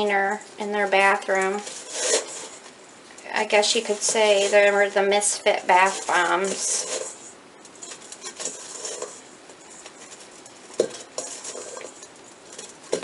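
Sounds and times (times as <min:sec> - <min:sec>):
scraping in steel bowl: 0:00.2 - 0:13.0.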